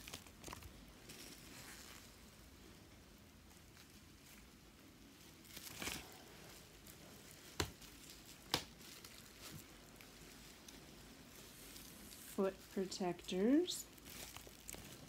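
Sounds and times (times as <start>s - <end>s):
plastic covers rustling: 0.0s - 15.0s.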